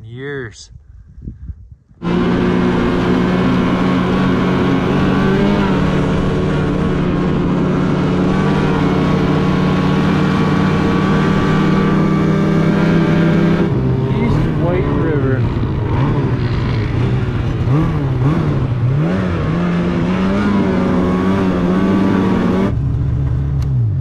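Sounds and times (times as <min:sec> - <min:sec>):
snowmobile engine droning: 0:02.0 - 0:24.0.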